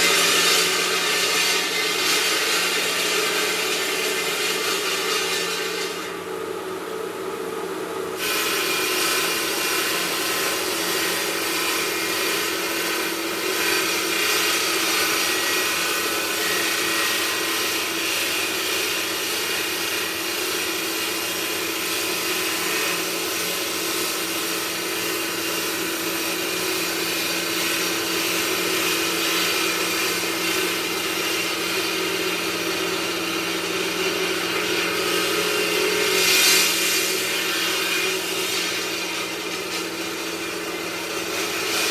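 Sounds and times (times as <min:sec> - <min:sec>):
machine grinding stone: 0:00.0 - 0:06.5, 0:08.1 - 0:41.9.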